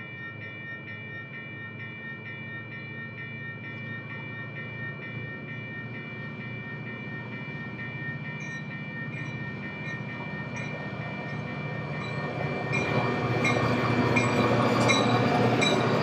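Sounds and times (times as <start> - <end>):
diesel locomotive engines rumbling: 0.0 - 16.0.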